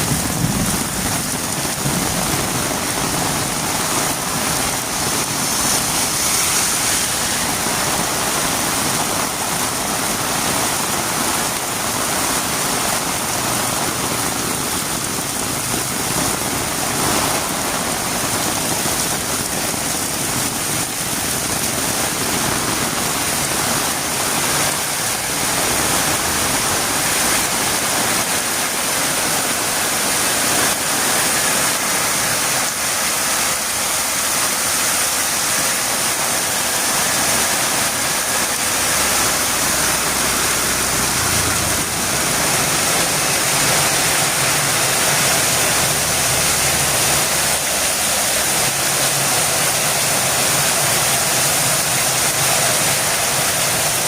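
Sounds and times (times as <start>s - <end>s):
heavy rain on a road: 0.0s - 54.0s.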